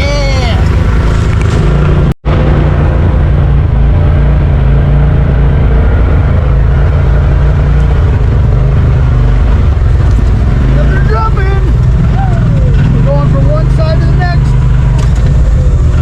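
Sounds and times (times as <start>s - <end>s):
utility vehicle engine running: 0.0s - 16.0s.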